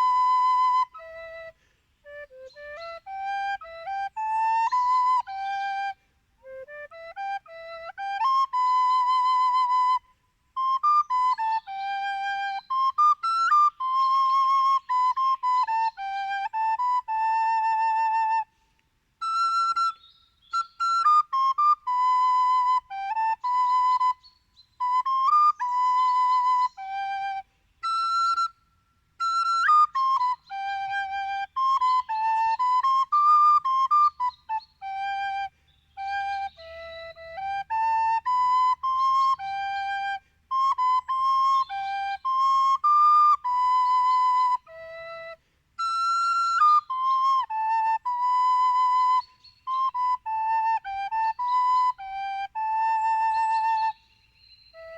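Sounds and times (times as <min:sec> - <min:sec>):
solo flute melody: 0:00.0 - 0:54.9.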